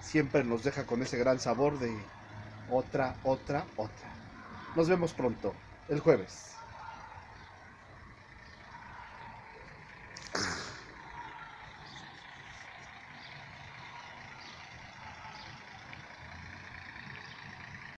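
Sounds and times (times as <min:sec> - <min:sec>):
city street traffic hum: 0:00.0 - 0:18.0.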